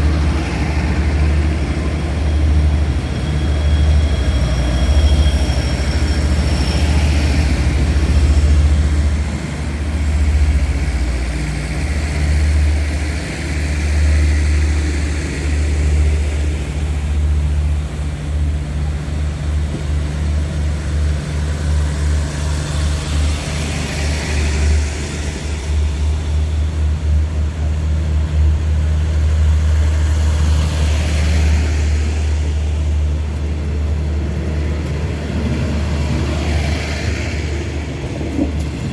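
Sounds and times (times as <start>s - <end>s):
diesel train engine rumbling: 0.0s - 38.9s.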